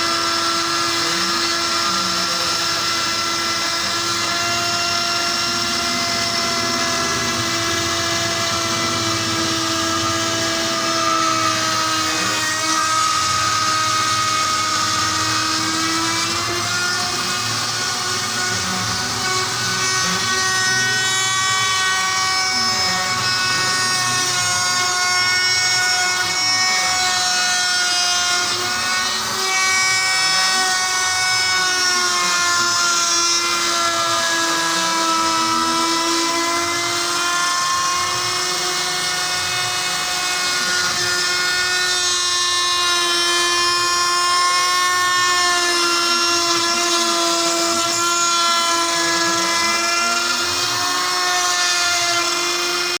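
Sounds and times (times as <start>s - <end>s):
router spindle whine: 0.0s - 53.0s.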